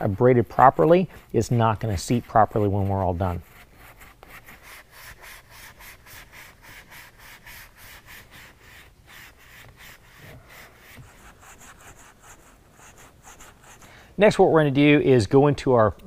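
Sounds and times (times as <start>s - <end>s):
abrasive pad rasping on felt: 0.0s - 14.1s.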